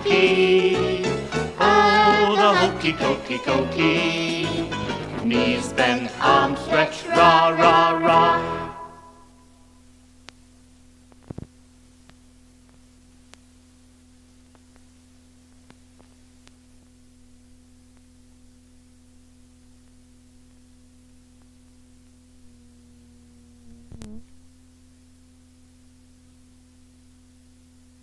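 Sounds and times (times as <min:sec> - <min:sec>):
tape hum and hiss: 0:00.0 - 0:28.0.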